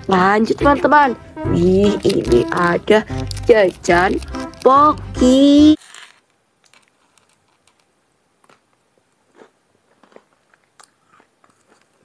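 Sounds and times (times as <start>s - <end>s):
crunching biscuit sticks: 0.0s - 12.0s.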